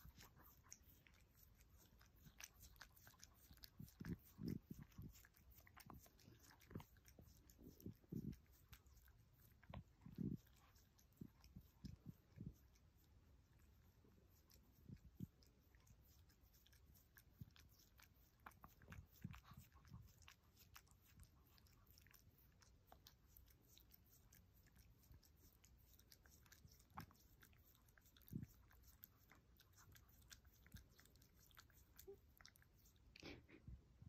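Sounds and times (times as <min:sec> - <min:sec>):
dog licking and smacking: 0:00.0 - 0:33.6.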